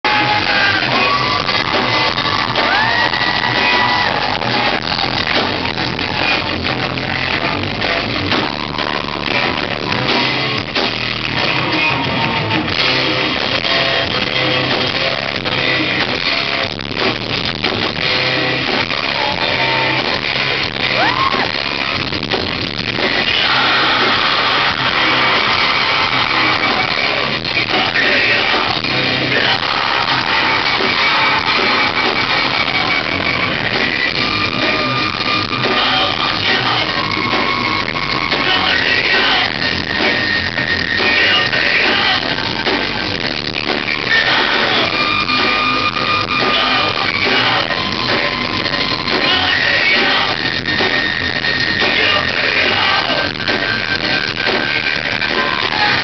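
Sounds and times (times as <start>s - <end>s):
loud rock music with guitar: 0.0s - 56.0s.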